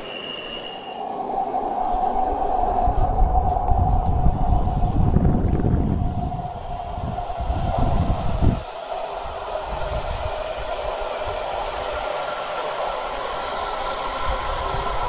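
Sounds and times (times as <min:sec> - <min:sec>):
subway train rolling in: 0:00.0 - 0:15.0
train whine: 0:00.0 - 0:15.0.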